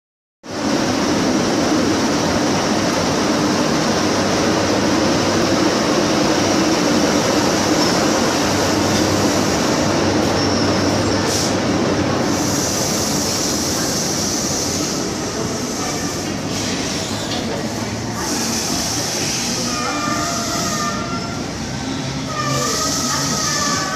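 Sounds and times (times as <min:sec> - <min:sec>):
electric locomotive passing: 0:00.5 - 0:23.9
train wheels on rails: 0:00.5 - 0:23.9.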